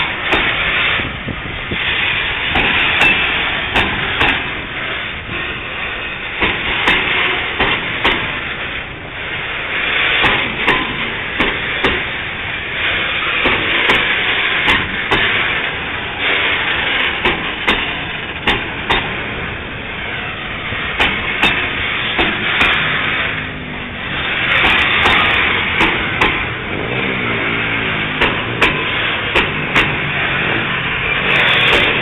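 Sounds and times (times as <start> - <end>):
train clanks and knocks: 0.0 - 32.0
train wheels rushing on rails: 0.0 - 32.0.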